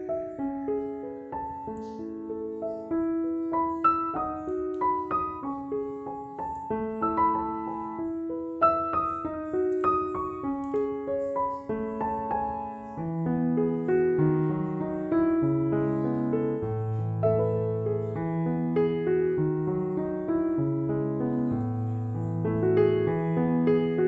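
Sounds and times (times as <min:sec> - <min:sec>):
background piano music: 0:00.0 - 0:24.0.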